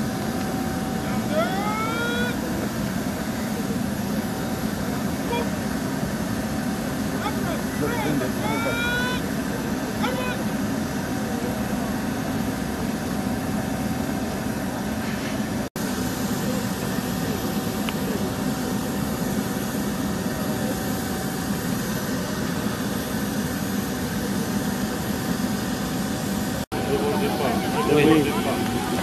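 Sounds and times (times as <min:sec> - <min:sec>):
jet engine idling: 0:00.0 - 0:29.0.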